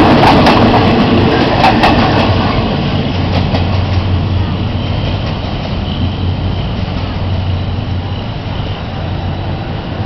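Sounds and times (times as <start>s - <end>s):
train carriages rumbling on track: 0.0s - 10.0s.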